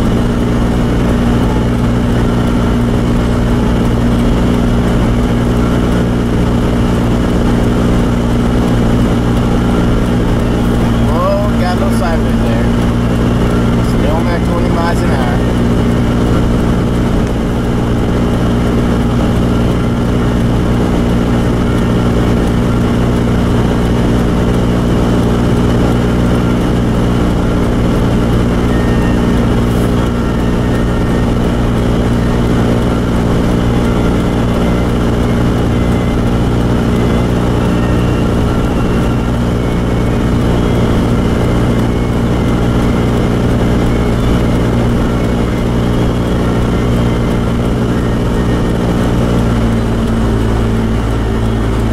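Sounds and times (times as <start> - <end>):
car engine and tyre noise: 0.0 - 51.9
heater blower running: 0.0 - 51.9.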